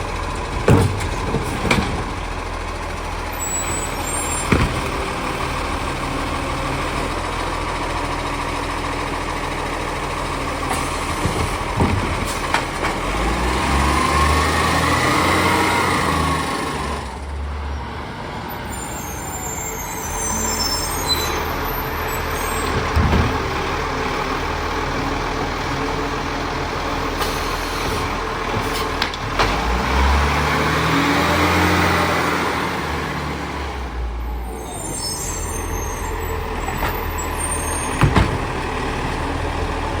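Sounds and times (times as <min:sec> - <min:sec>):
garbage truck engine revving: 0:00.0 - 0:40.0.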